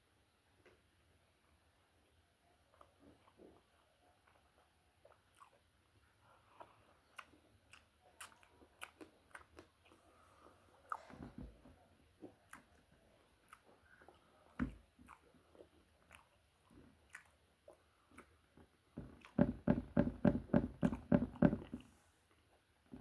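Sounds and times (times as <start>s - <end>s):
person chewing food: 1.5s - 20.0s.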